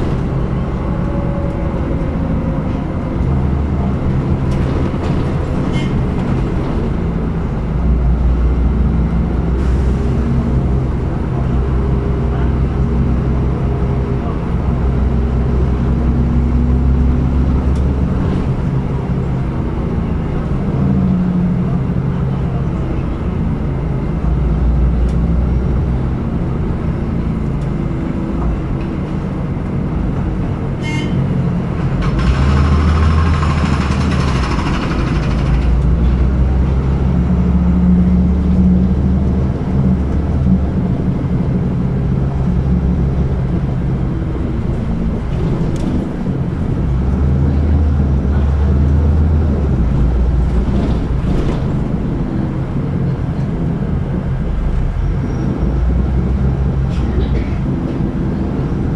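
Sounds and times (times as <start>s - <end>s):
bus engine hum: 0.0s - 58.9s.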